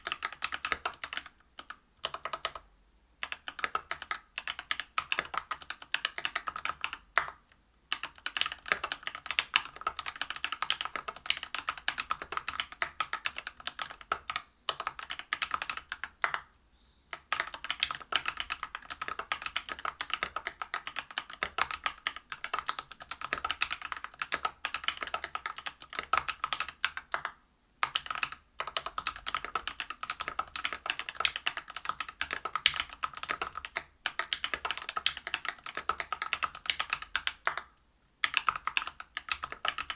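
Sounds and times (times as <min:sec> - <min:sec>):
fast typing on mechanical keyboard: 0:00.0 - 0:02.6, 0:03.2 - 0:16.5, 0:17.1 - 0:39.9.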